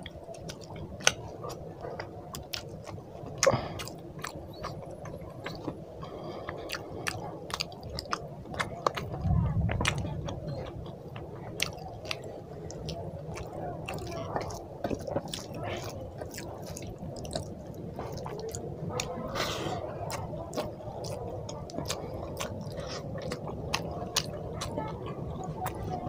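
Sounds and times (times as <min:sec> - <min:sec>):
steady low hum: 0:00.0 - 0:26.0
wet chewing: 0:00.0 - 0:26.0.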